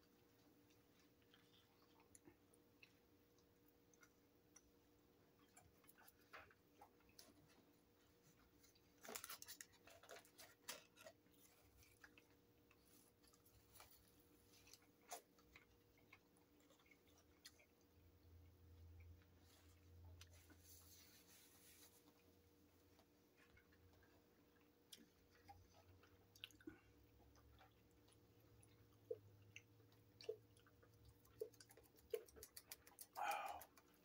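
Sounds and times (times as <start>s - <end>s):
quiet chewing: 0.0s - 34.0s.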